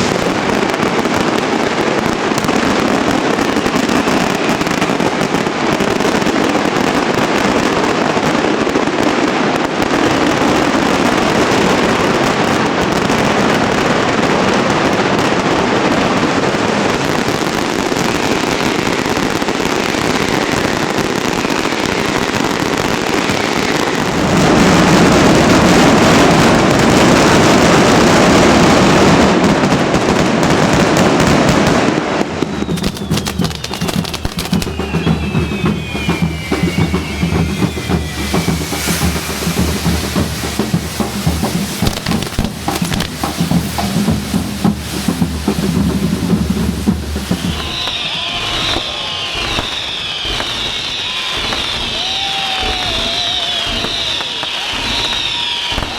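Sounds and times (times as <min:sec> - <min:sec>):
fireworks and firecrackers exploding: 0:00.0 - 0:55.9.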